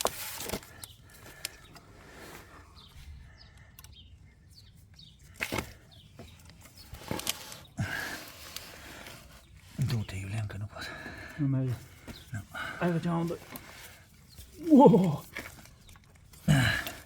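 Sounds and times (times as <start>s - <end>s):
rustling handling noise: 0.0s - 3.0s, 4.6s - 10.4s, 11.0s - 17.0s.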